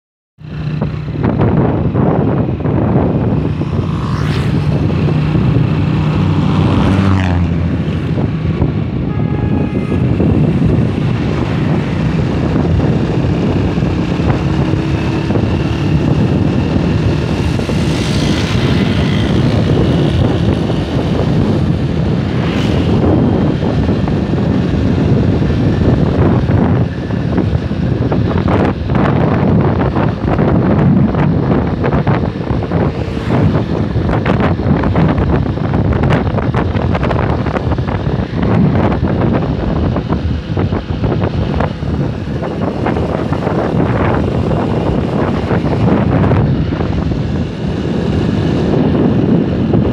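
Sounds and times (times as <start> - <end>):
motorcycle engine revving: 0.4 - 49.9
wind rush on microphone: 0.4 - 49.9.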